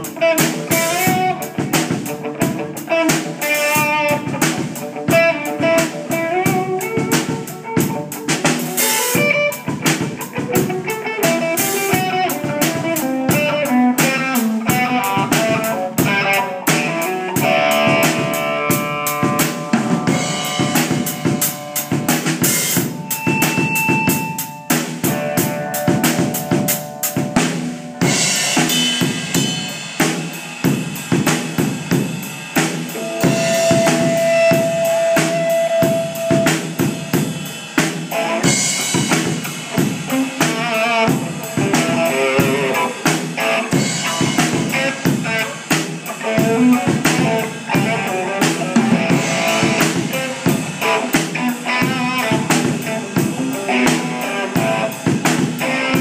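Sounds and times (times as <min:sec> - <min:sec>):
acoustic drum kit playing: 0:00.0 - 0:56.0
electric guitar playing: 0:00.0 - 0:56.0.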